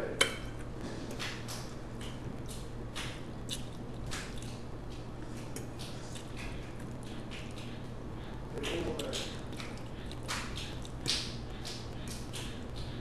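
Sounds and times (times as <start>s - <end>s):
steady low hum: 0.0s - 13.0s
wet chewing and mouth smacking: 1.1s - 13.0s.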